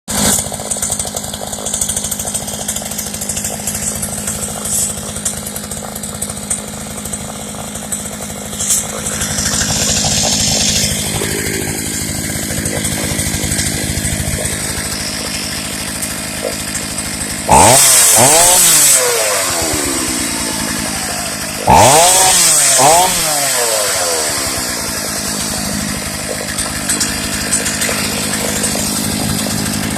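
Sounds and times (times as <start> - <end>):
chainsaw engine running: 0.1 - 29.9.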